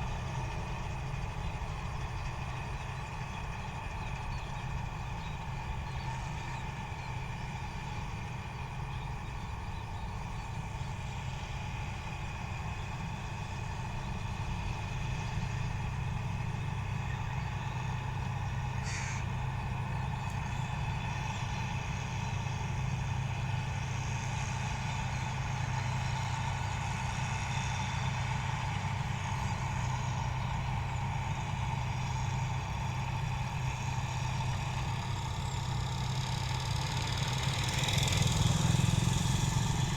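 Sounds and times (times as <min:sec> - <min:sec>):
harvester engine and machinery running: 0:00.0 - 0:39.9.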